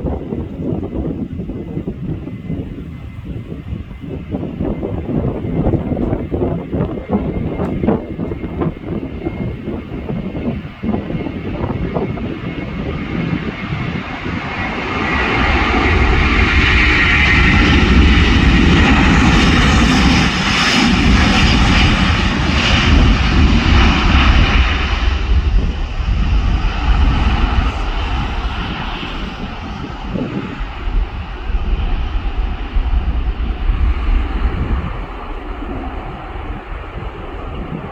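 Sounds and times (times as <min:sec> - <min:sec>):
jet airliner roar passing: 0:00.0 - 0:37.9.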